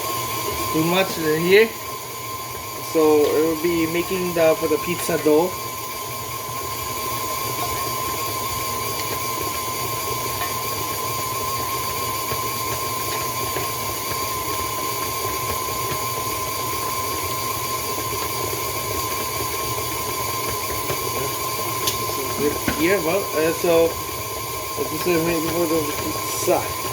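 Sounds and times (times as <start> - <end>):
electric mixer motor running: 0.0 - 26.9.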